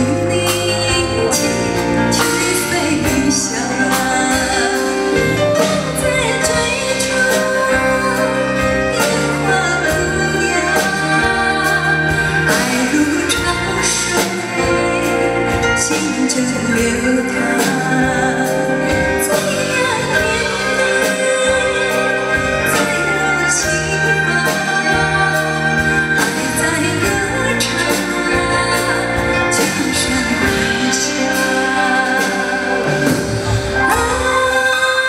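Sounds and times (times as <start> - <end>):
band playing: 0.0 - 35.0
woman singing into a microphone: 0.0 - 35.0.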